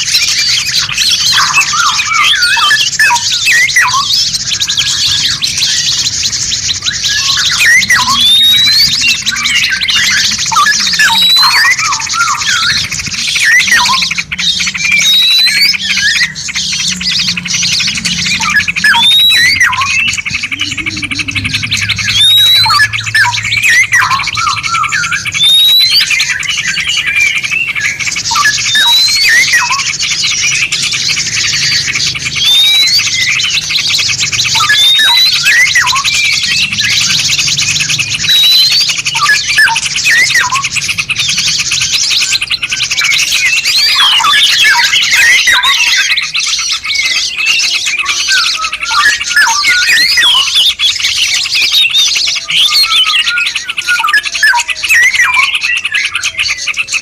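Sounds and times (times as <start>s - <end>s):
fast buzzing bird trill: 0.0s - 57.0s
songbirds chirping and whistling: 0.0s - 57.0s.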